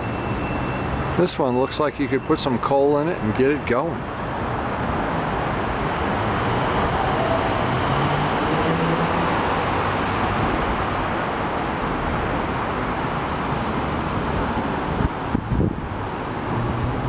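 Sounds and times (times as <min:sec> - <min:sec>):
street traffic passing: 0:00.0 - 0:17.0.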